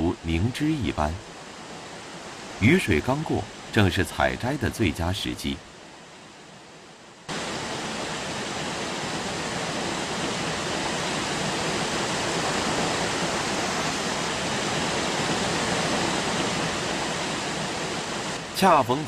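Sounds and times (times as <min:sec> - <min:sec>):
waterfall rushing over weir: 0:00.0 - 0:06.4, 0:07.3 - 0:19.0.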